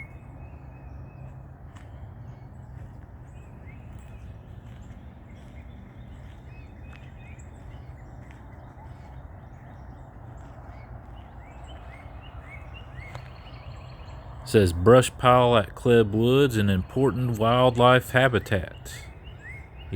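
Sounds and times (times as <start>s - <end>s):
birds rising chirps: 0.0s - 19.9s.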